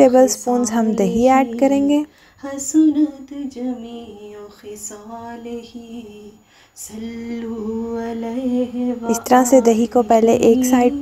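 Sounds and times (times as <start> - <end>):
woman singing devotional song: 0.0 - 11.0.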